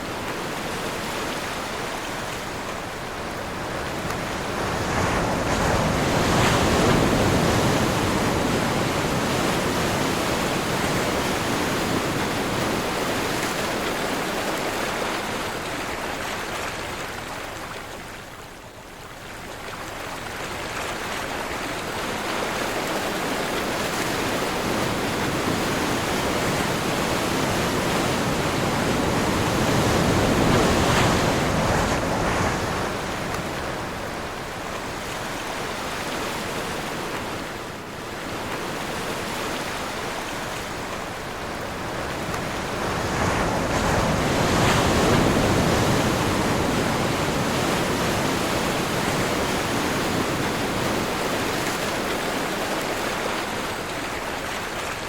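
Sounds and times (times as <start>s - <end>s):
ocean surf breaking: 0.0s - 14.9s, 22.8s - 54.9s.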